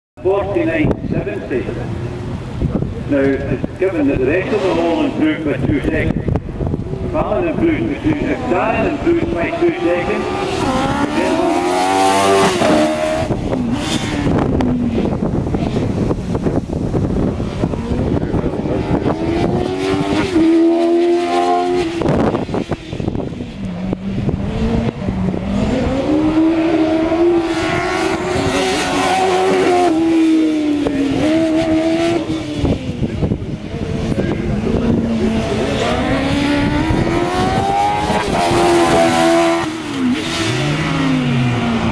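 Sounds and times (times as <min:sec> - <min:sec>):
racing car engine revving: 0:01.2 - 0:41.9.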